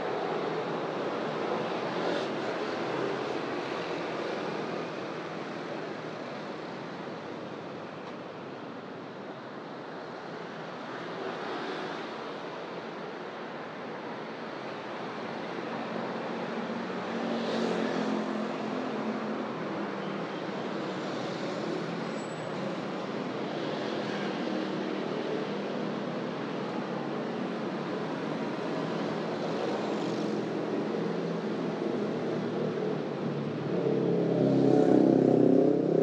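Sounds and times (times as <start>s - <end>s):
road traffic going by: 0.0s - 36.0s.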